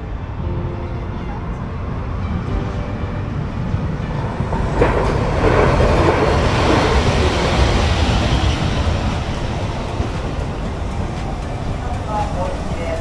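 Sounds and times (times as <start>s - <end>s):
tram wheel-and-rail noise: 0.0s - 13.0s.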